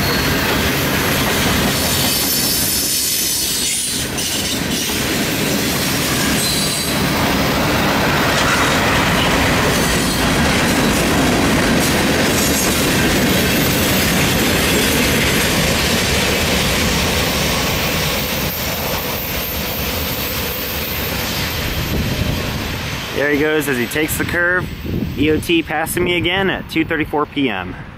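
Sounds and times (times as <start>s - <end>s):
train wheels clattering on rails: 0.0s - 23.2s.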